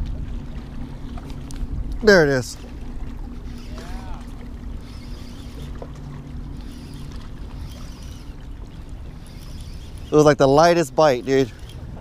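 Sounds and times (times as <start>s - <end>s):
steady low hum: 0.0s - 12.0s
wind on microphone: 0.0s - 12.0s.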